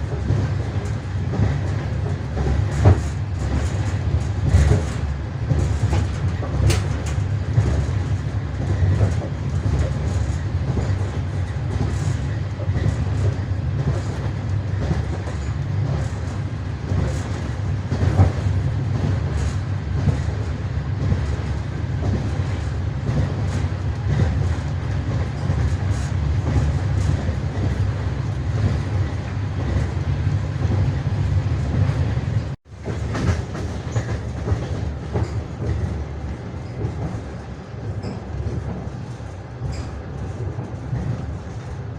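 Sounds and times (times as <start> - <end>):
train rumbling: 0.0 - 41.9
wheels clacking over rail joints: 0.0 - 41.9.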